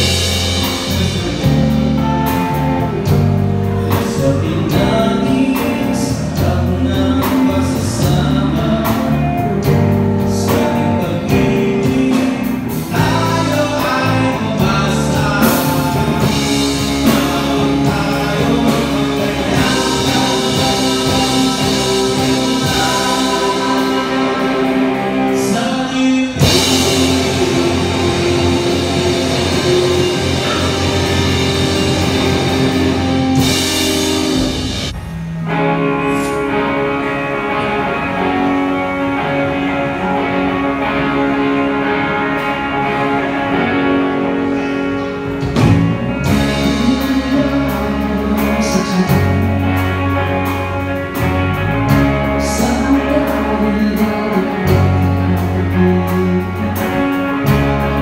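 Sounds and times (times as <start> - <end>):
man singing lead vocal: 0.0 - 34.6, 35.8 - 58.0
rock band playing live: 0.0 - 58.0.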